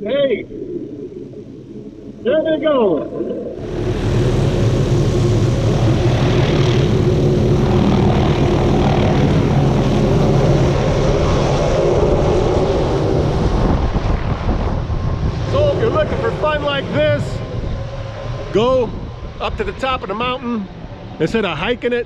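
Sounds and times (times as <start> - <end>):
helicopter engine and rotor: 3.6 - 21.8.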